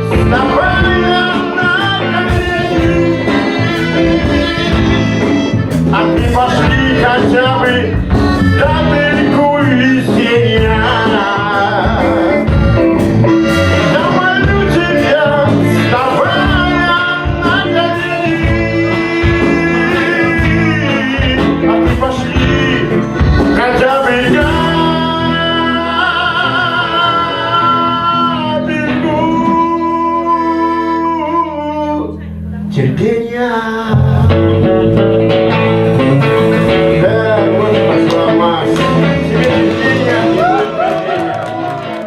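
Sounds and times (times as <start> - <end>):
person singing: 0.0 - 35.0, 35.9 - 42.0
live band with guitar: 0.0 - 42.0.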